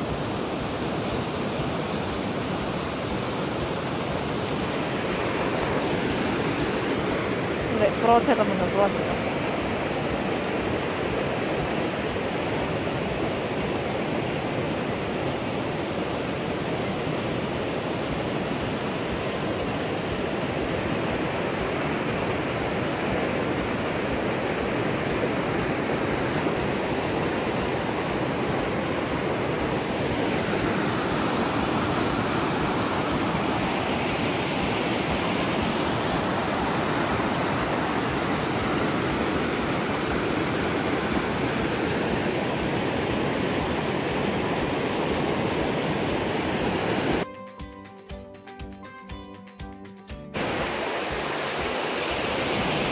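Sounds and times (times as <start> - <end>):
water rushing over a dam: 0.0 - 47.3, 50.4 - 52.9.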